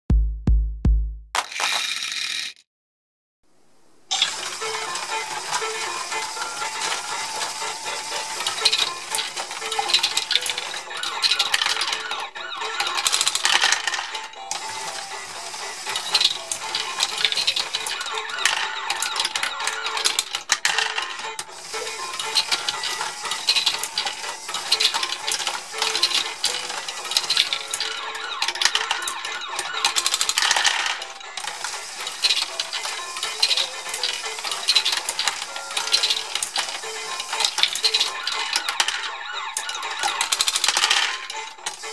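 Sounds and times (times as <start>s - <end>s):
chain conveyor: 1.4s - 2.6s, 4.1s - 41.9s
plastic balls clattering: 1.4s - 2.6s, 4.1s - 41.9s.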